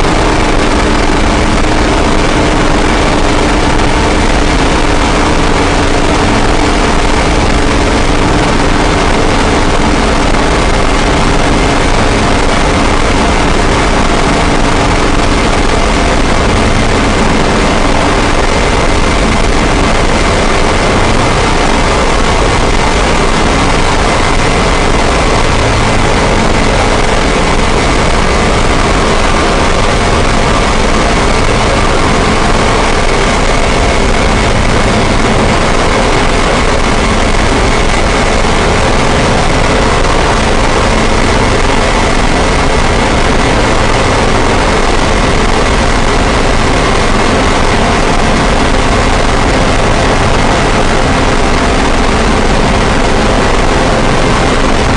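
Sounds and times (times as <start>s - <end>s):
dense distorted noise: 0.0s - 54.9s
faint held drone tones: 0.0s - 54.9s.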